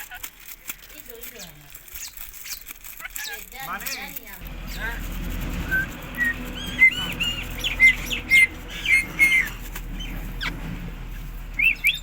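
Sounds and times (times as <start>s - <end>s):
parakeet chirping: 1.4s - 12.0s.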